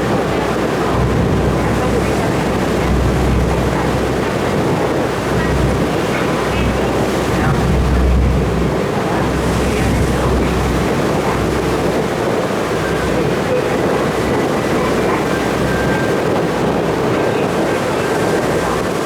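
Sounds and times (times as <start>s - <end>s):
ferry engine drone: 0.0s - 19.0s
rushing water: 0.0s - 19.0s
wind buffeting microphone: 0.0s - 19.0s.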